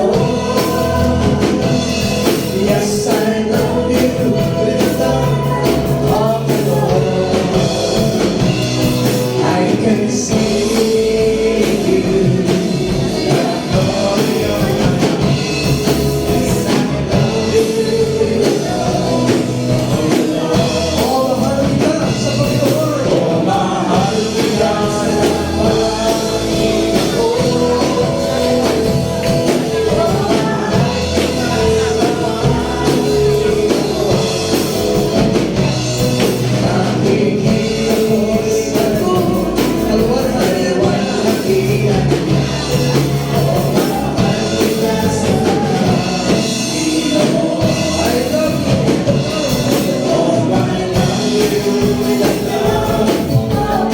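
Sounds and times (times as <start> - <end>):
gospel band playing: 0.0 - 53.9
people singing: 0.0 - 53.9.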